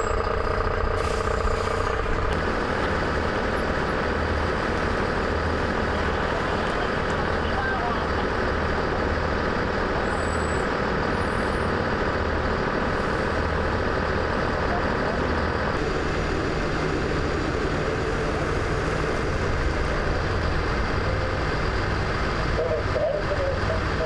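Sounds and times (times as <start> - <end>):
diesel engines idling: 0.0 - 24.0.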